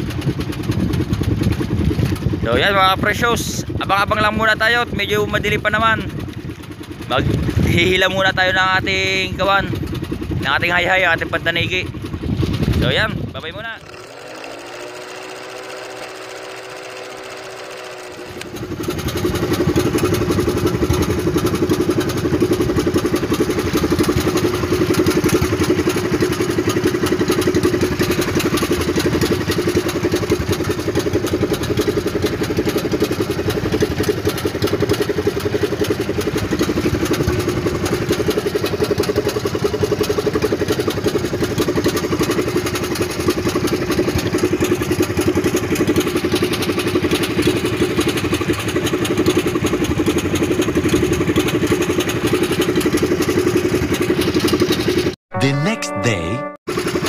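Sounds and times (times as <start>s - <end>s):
boat engine running: 0.0s - 55.2s, 56.7s - 57.0s.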